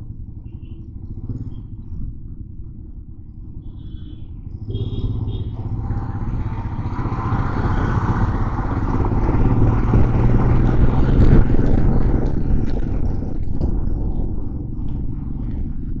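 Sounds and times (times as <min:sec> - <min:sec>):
motorcycle engine riding: 0:00.0 - 0:16.0.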